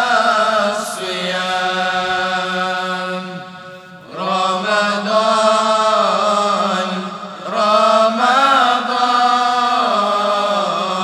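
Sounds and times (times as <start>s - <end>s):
group chanting: 0.0s - 11.0s.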